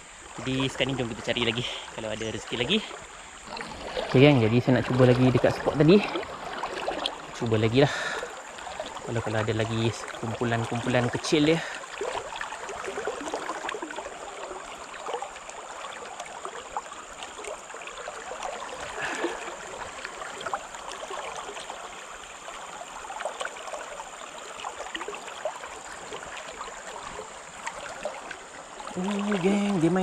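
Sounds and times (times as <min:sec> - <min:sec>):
river current flowing: 0:00.0 - 0:30.0.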